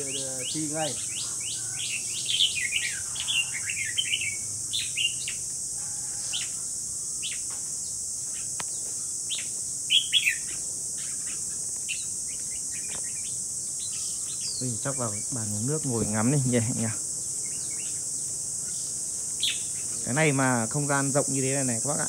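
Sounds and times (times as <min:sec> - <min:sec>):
birds chirping and singing: 0:00.0 - 0:21.7
high insect drone: 0:00.0 - 0:22.0.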